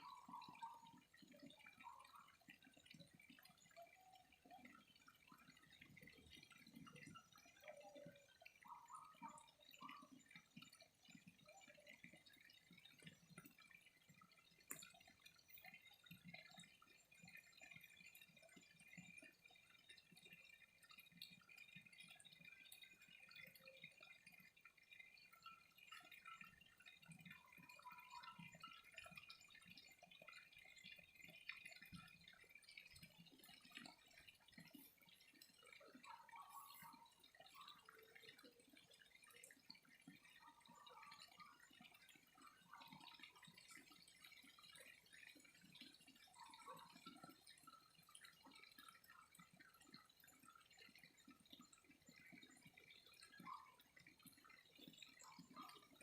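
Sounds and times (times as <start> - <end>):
water trickling and dripping: 0.0 - 56.0.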